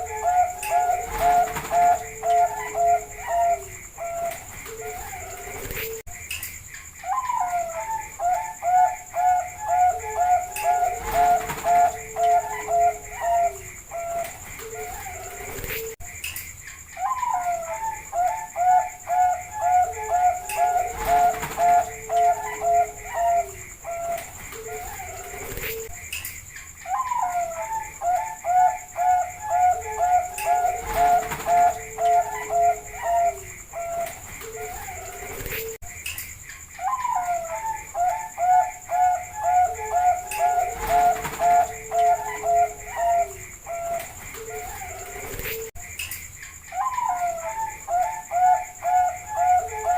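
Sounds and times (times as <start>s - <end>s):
dove cooing: 0.0s - 6.0s, 7.0s - 16.0s, 17.0s - 25.9s, 26.8s - 35.8s, 36.8s - 45.7s, 46.7s - 49.9s.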